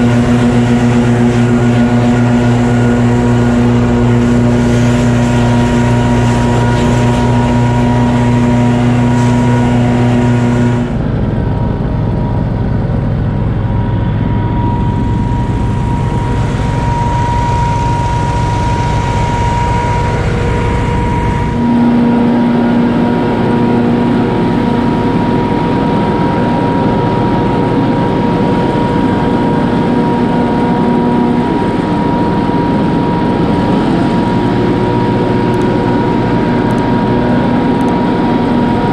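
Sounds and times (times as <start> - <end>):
leaf vacuum engine running: 0.0 - 38.9.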